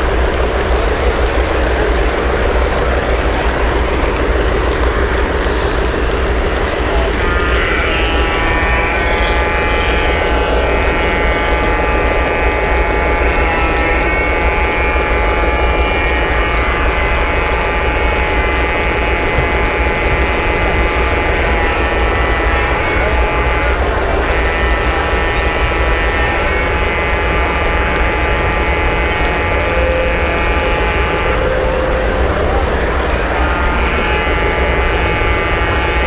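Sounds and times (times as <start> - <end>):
model train wheels rumbling: 0.0 - 36.0
steady motor whine: 0.0 - 36.0.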